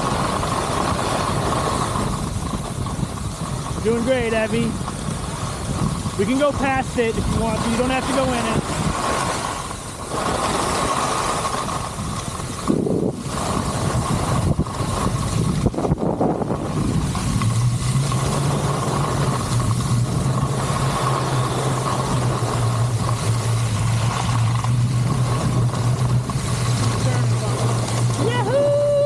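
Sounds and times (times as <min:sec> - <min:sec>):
ski scraping bursts: 0:00.0 - 0:29.0
skis sliding on snow: 0:00.0 - 0:29.0
wind rushing over microphone: 0:00.0 - 0:29.0.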